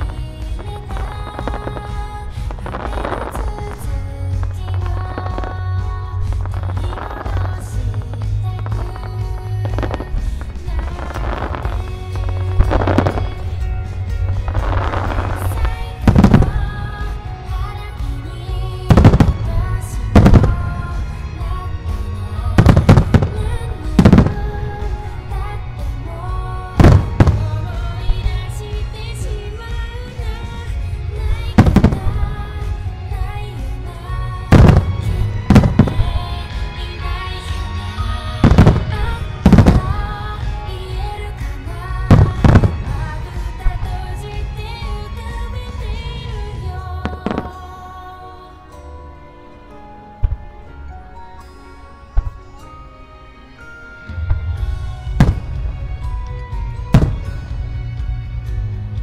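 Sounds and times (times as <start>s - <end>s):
pop song playing: 0.0s - 59.0s.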